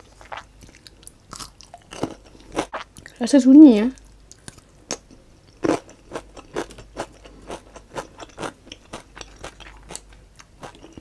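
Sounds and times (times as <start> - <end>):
person chewing crisp food: 0.0 - 3.2, 4.0 - 11.0.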